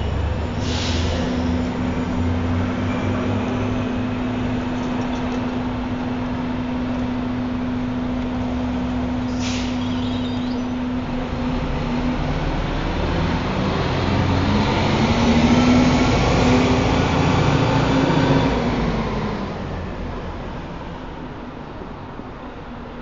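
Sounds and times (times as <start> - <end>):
train rumbling on elevated railway: 0.0 - 23.0.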